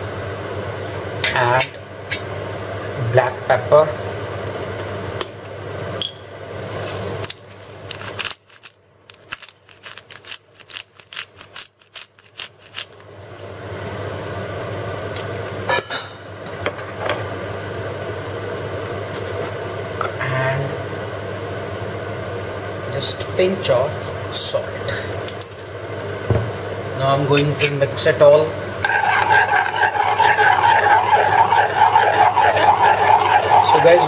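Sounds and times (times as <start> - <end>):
steady low hum: 0.0 - 16.6, 17.2 - 34.0.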